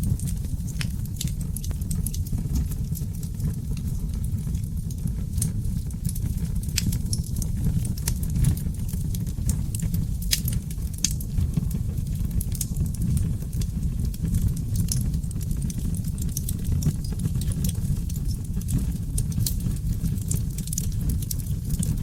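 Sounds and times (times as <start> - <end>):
fire crackles and pops: 0.0 - 22.0
low rumble of flames: 0.0 - 22.0.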